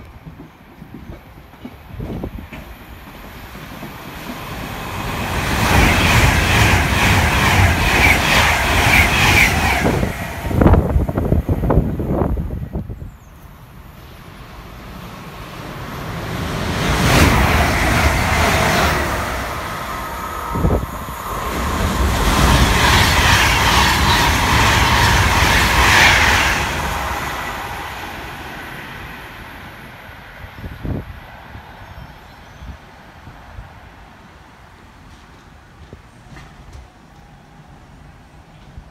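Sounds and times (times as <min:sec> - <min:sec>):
electric train passing at speed: 0:00.0 - 0:38.9.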